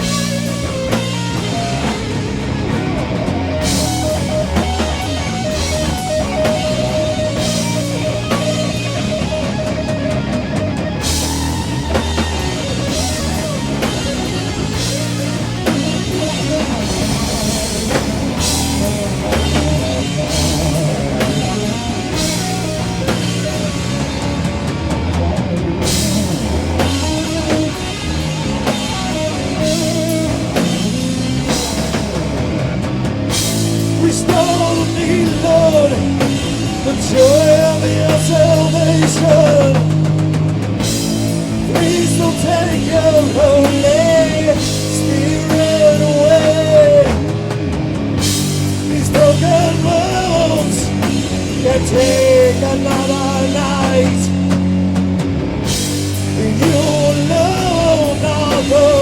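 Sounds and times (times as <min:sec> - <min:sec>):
distorted electric guitars: 0:00.0 - 0:59.0
drum kit with cymbal crashes: 0:00.0 - 0:59.0.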